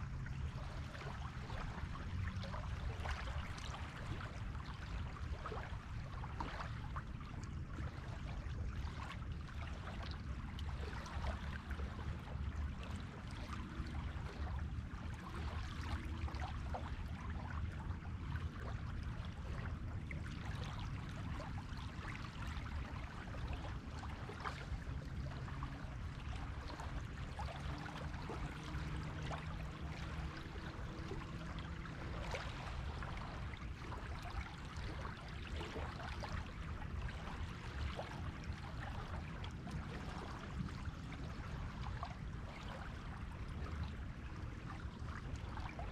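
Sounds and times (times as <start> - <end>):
faint low hum: 0.0 - 45.8
shallow water washing at shore: 0.0 - 45.9
water crackling over sand and stones: 0.0 - 45.9.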